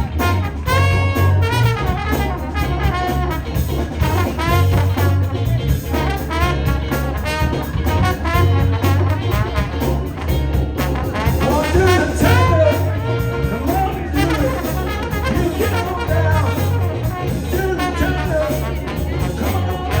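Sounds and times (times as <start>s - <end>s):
soul band playing funky groove: 0.0s - 20.0s
trombone solo: 0.0s - 20.0s.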